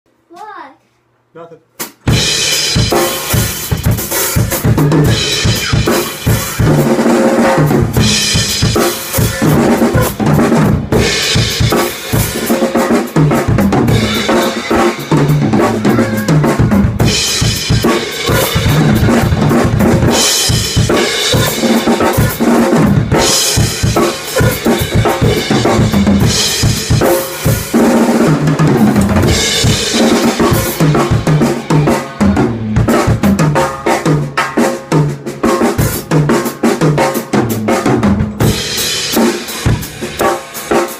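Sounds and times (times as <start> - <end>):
drum kit groove: 1.7 - 40.9.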